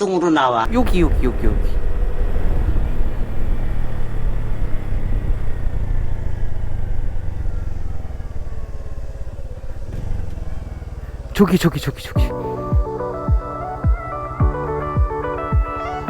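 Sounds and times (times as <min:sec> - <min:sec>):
motorbike engine running: 0:00.7 - 0:16.0.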